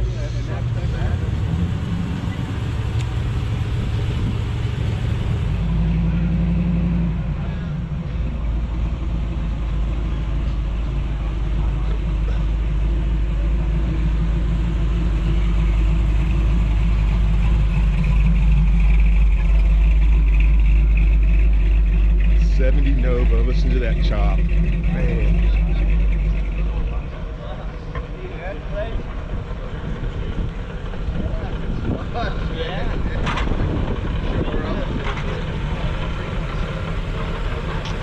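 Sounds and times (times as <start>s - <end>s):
car engine loping idle: 0.0s - 38.0s.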